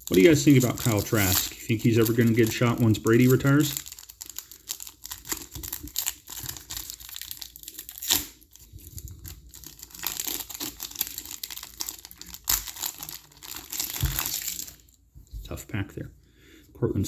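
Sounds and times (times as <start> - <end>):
plastic wrapper tearing and crinkling: 0.0 - 15.0.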